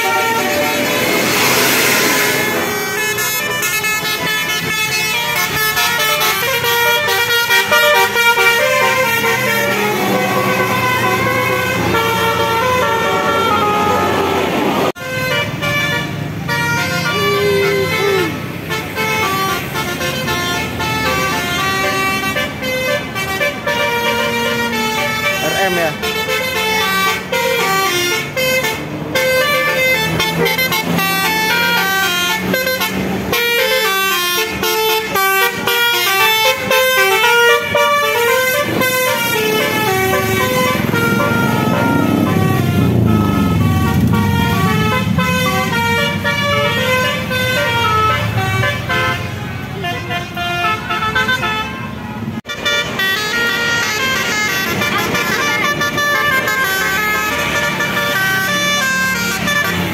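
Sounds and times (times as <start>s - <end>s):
multi-tone bus horns playing tunes: 0.0s - 59.9s.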